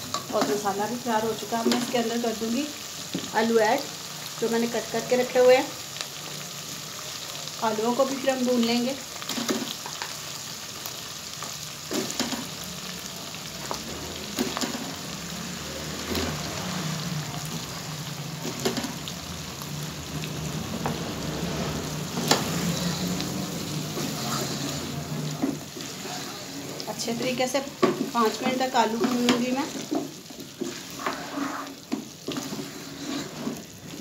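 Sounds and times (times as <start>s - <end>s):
food sizzling in a pot: 0.0s - 34.0s.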